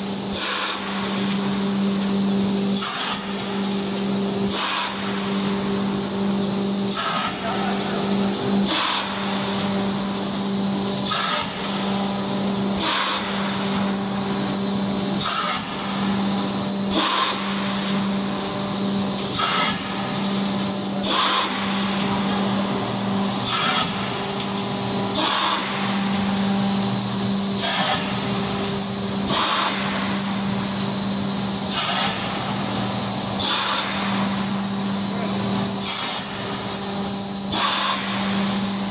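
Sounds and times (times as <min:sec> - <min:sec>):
machine motor hum: 0:00.0 - 0:38.9.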